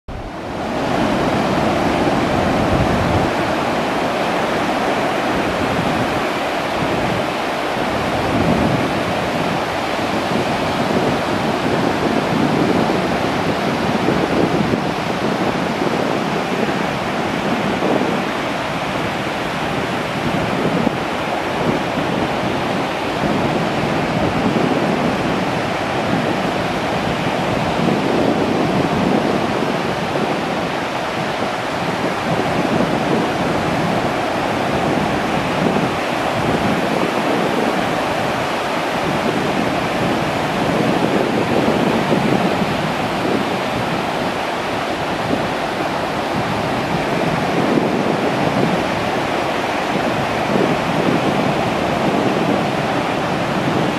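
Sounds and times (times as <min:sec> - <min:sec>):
ocean waves breaking on beach: 0:00.1 - 0:53.9.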